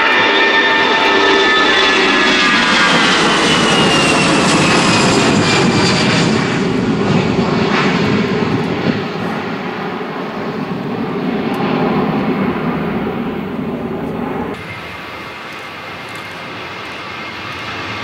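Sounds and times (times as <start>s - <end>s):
jet engines roaring at takeoff: 0.0s - 18.0s.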